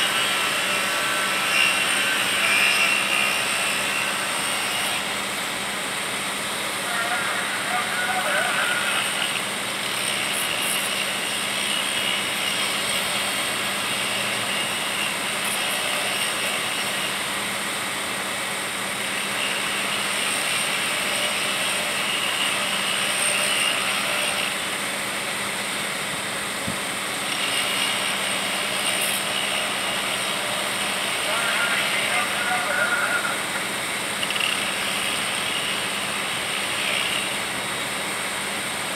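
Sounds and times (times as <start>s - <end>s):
welding hiss: 0.0s - 17.6s, 18.6s - 38.9s
welding equipment humming: 0.0s - 38.9s.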